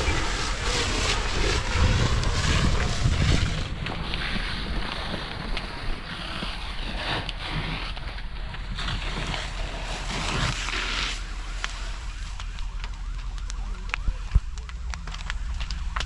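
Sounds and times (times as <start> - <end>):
burning wood crackling and popping: 0.0 - 16.0
low rumble: 0.0 - 16.0.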